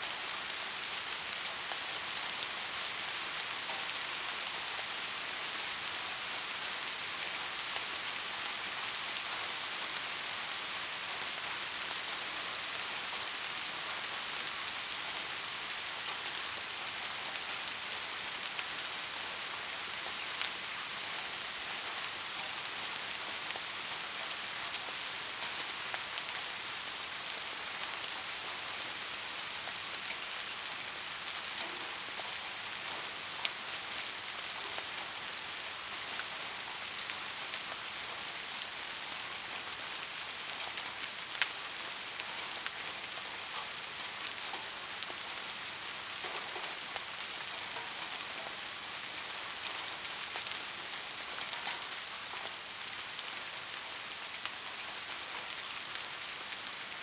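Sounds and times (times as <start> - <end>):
steady rain hiss: 0.0 - 57.0
raindrops ticking on a surface: 0.1 - 57.0.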